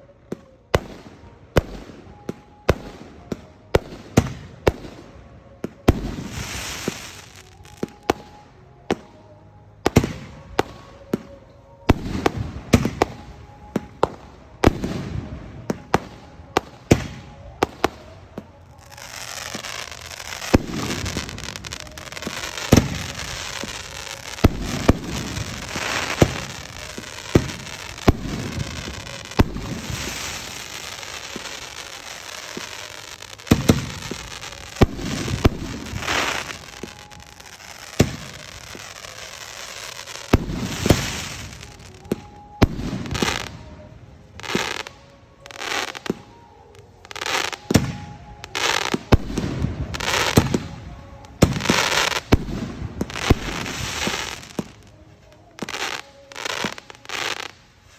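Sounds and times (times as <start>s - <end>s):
continuous hiss: 0.0s - 57.9s.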